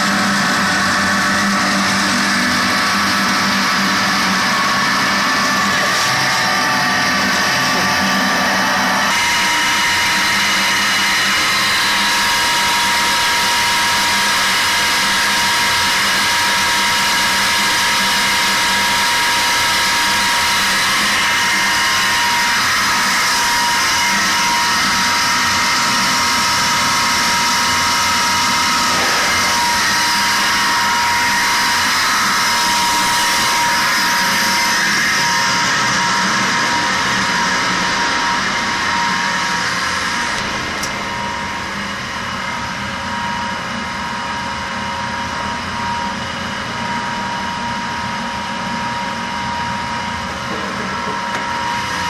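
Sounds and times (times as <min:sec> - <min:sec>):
pump motor running loudly: 0:00.0 - 0:52.0
steady high whine: 0:00.0 - 0:52.0.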